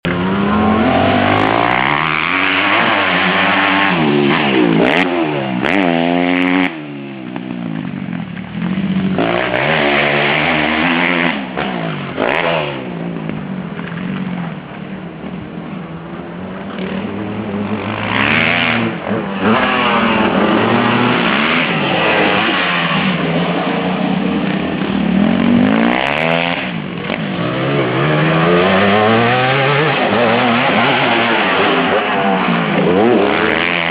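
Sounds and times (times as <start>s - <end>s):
motorbike engine revving: 0.0s - 33.9s.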